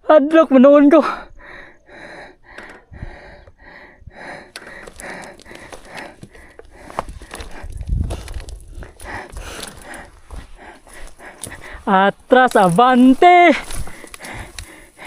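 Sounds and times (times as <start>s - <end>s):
person breathing hard: 1.0s - 11.9s, 13.6s - 15.0s.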